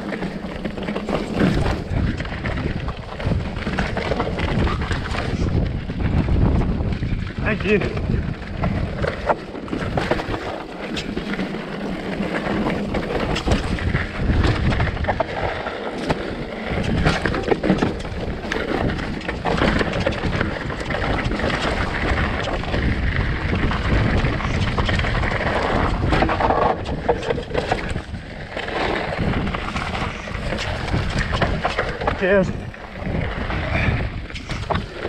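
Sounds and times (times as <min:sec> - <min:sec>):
bike knocking and rattling: 0:00.0 - 0:35.0
tyres rumbling on trail: 0:00.0 - 0:35.0
wind rushing over microphone: 0:00.0 - 0:35.0.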